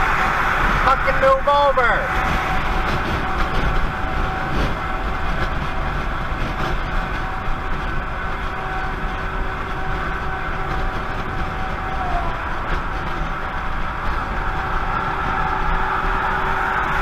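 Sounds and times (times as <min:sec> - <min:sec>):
tyre and wind rumble: 0:00.0 - 0:17.0.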